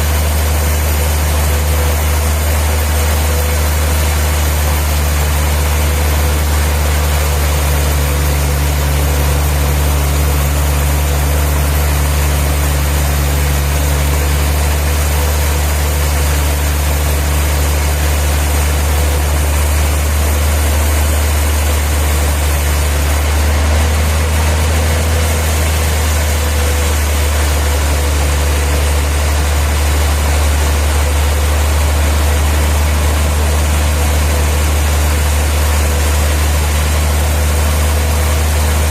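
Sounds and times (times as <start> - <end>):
machinery engine humming: 0.0 - 38.9.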